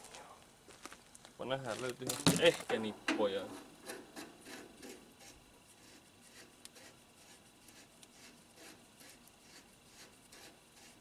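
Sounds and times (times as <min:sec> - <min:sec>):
faint rustling and scraping: 0:00.0 - 0:11.0.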